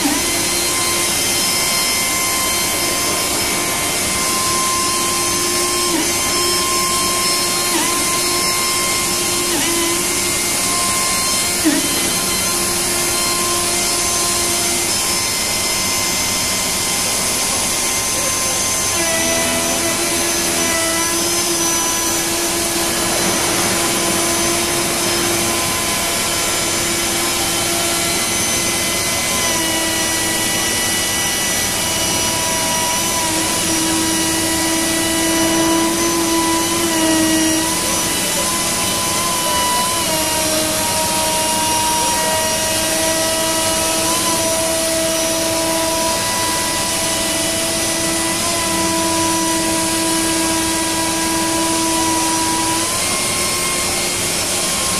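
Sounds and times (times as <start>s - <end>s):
router spindle whining: 0.0s - 54.9s.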